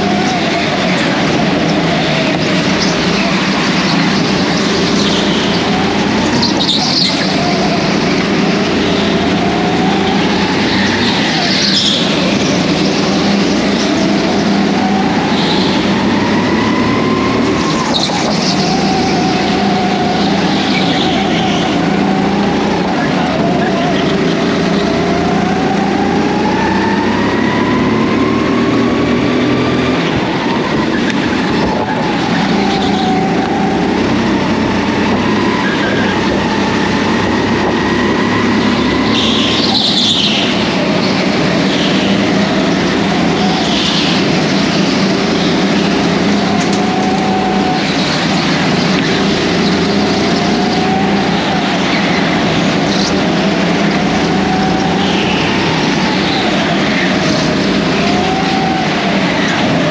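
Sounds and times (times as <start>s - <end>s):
go-kart motor revving: 0.0s - 59.9s.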